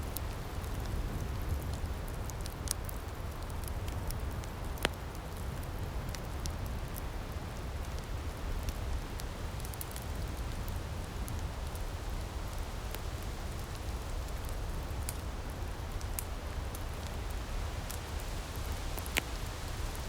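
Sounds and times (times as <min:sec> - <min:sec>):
firepit crackling: 0:00.0 - 0:20.0.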